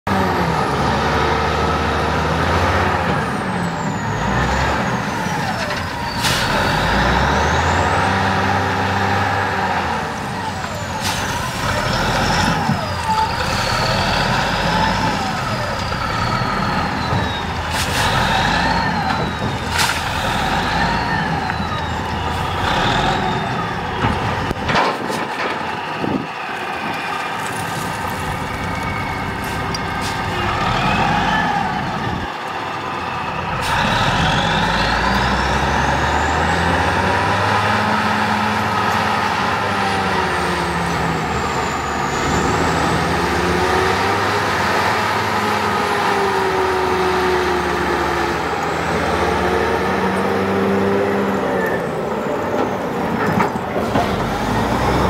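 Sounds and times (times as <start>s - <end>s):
wheel loader diesel engine: 0.1s - 55.0s.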